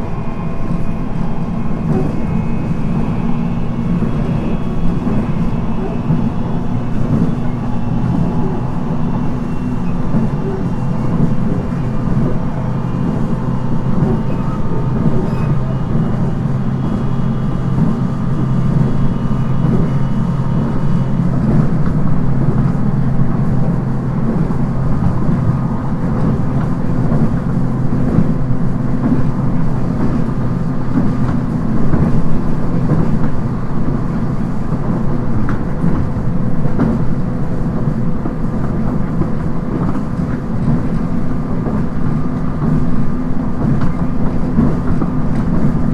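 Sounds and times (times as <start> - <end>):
train motor and gear tones: 0.0 - 45.9
train wheels rumbling: 0.0 - 45.9.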